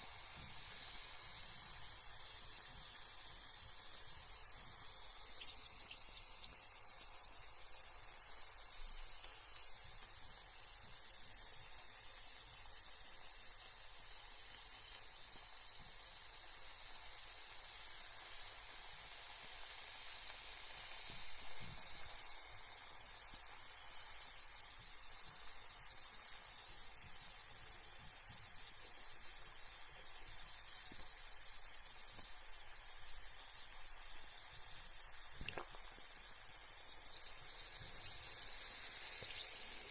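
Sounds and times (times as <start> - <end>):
bath bomb fizzing in water: 0.0 - 39.9.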